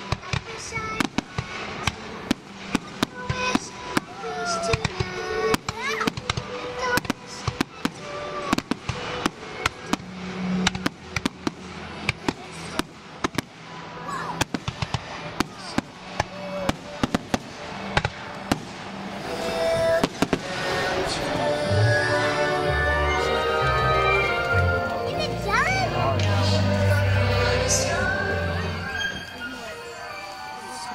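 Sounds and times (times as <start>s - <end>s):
fireworks bangs and crackles: 0.0s - 22.4s, 23.0s - 30.9s
faint music: 0.0s - 30.9s.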